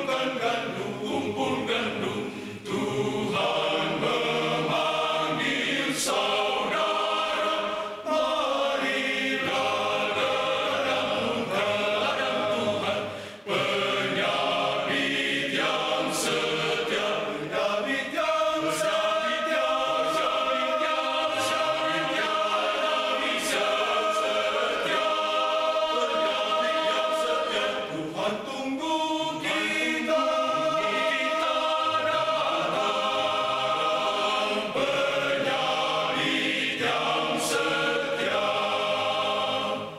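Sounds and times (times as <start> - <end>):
male choir singing: 0.0 - 39.9.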